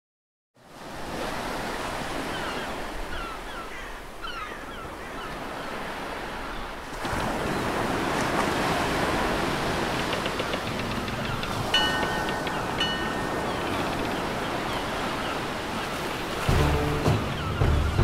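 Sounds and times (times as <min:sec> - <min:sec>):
sea surf: 0:00.6 - 0:18.0
wind: 0:00.6 - 0:18.0.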